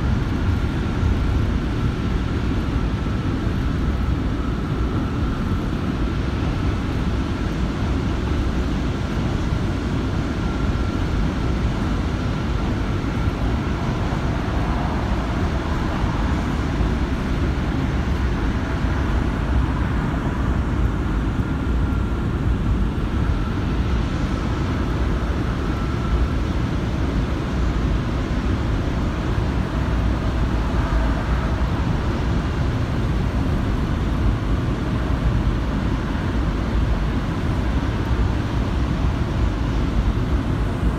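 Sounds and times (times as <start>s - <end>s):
faint whine: 0.0s - 40.9s.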